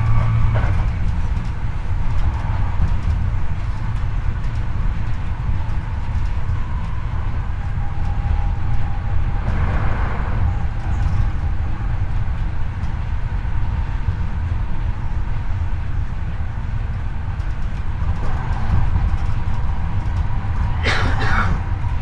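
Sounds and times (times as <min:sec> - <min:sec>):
train wheel-on-rail rumble: 0:00.0 - 0:22.0.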